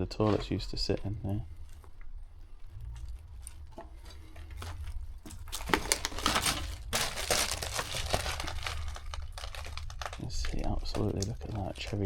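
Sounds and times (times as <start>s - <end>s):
low steady rumble: 0.0s - 12.0s
rubbish crinkling and crunching: 0.0s - 12.0s.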